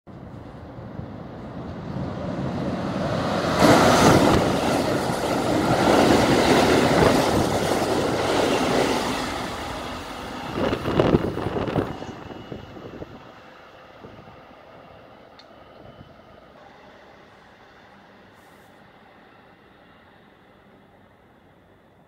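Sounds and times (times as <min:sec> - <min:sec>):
electric train passing: 0:00.1 - 0:22.0.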